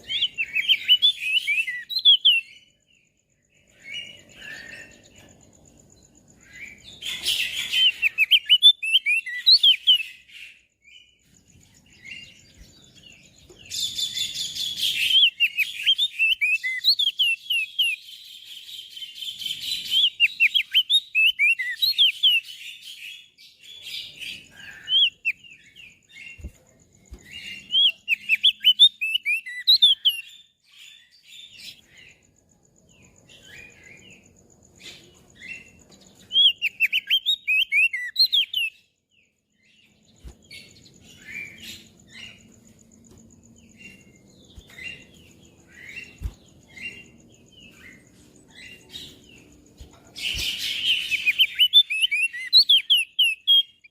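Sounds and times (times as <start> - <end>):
bird twittering chirps: 0.0 - 53.9.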